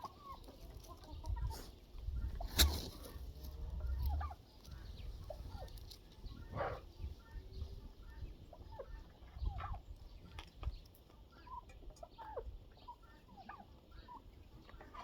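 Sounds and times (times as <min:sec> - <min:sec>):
poultry clucking and calling: 0:00.0 - 0:15.0.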